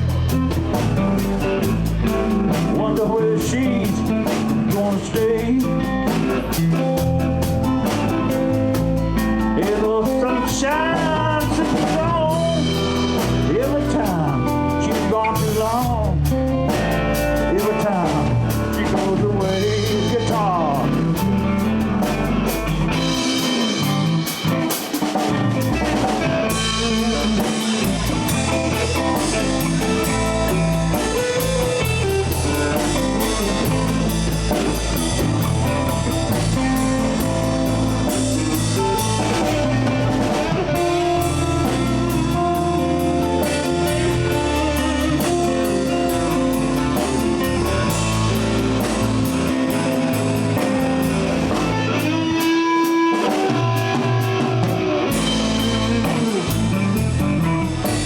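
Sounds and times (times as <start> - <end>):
bass guitar: 0.0 - 58.0
drum kit: 0.0 - 58.0
guitar solo: 5.5 - 58.0.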